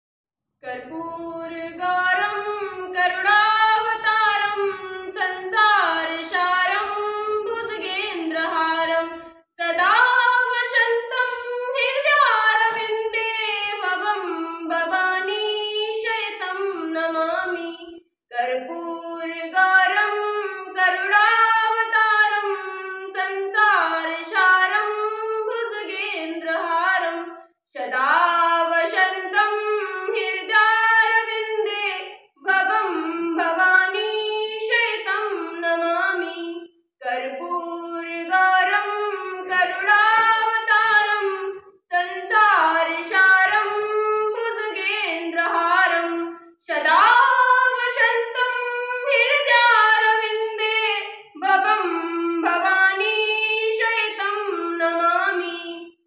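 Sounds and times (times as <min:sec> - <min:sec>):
girl singing unaccompanied: 0:00.6 - 0:56.0.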